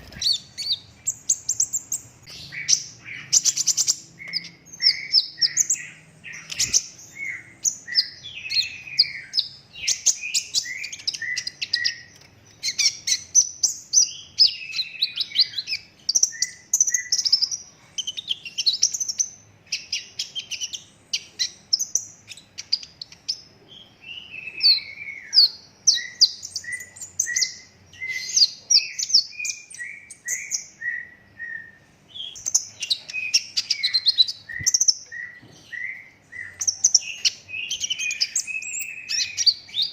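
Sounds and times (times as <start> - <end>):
sunbird singing chirps and trills: 0.0 - 39.9.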